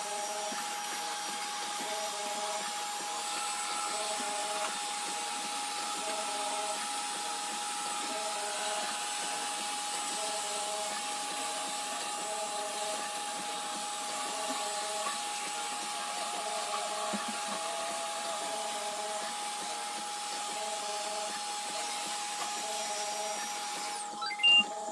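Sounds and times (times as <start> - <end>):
robot vacuum whirring: 0.0 - 24.9.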